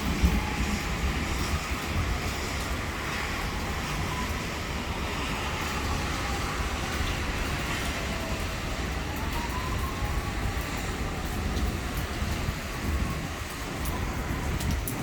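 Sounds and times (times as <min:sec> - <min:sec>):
heavy wind and rain: 0:00.0 - 0:15.0
wind buffeting microphone: 0:00.0 - 0:15.0.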